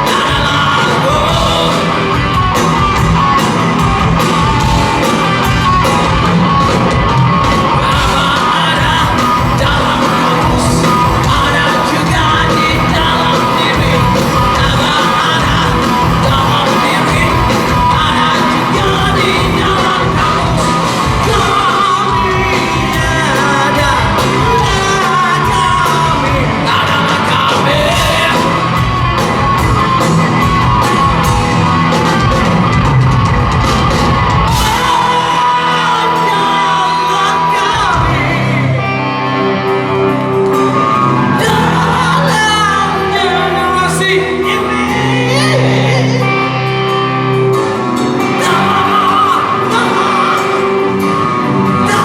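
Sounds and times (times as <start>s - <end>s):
sung and shouted vocals: 0.0s - 29.7s, 33.9s - 52.0s
drums: 0.0s - 52.0s
live rock band playing: 0.0s - 52.0s.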